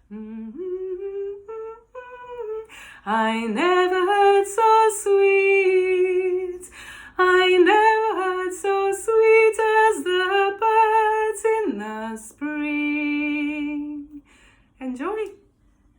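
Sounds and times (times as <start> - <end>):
woman singing unaccompanied: 0.0 - 14.2.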